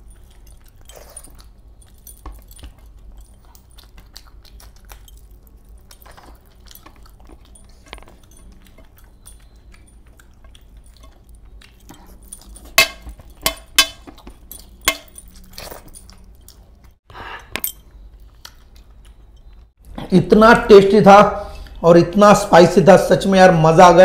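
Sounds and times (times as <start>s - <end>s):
soft chewing: 0.0s - 20.0s.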